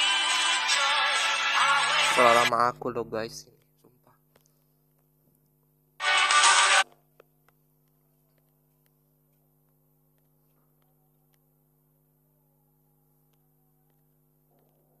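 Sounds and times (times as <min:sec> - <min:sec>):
faint electrical hum: 0:00.1 - 0:15.0.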